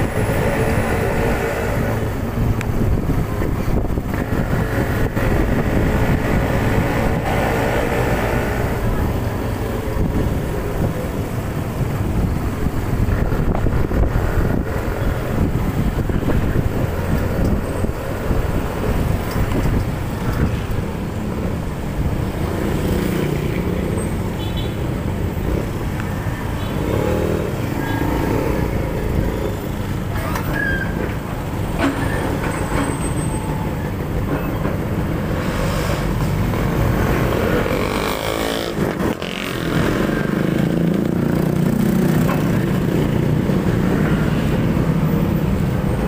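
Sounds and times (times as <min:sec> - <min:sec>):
other motorcycles and vehicles: 0:00.0 - 0:46.0.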